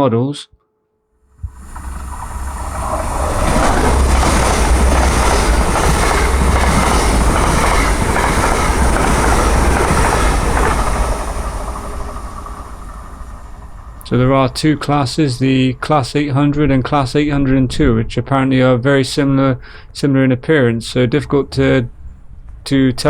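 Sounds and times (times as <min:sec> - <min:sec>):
train rumbling past on rails: 0:01.3 - 0:23.0.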